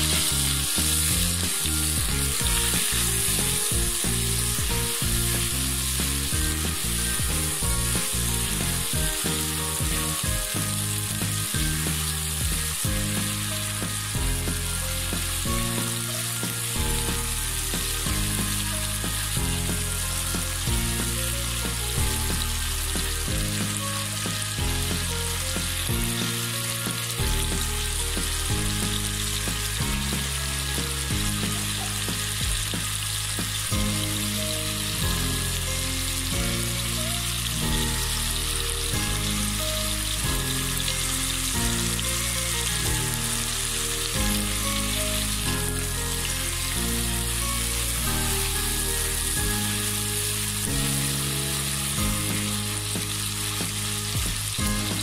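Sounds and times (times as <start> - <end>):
chicken sizzling in butter: 0.0 - 55.0.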